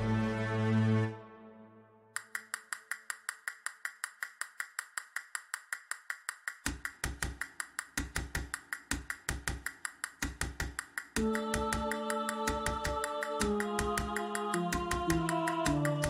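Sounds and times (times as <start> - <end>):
fast ticking percussion: 2.2 - 16.0.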